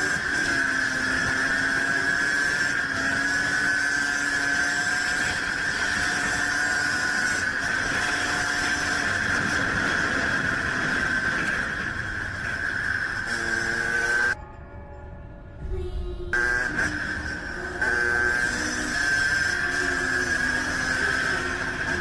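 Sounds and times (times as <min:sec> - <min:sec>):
high steady whine: 0:00.0 - 0:22.0
vehicle engine running: 0:00.0 - 0:22.0.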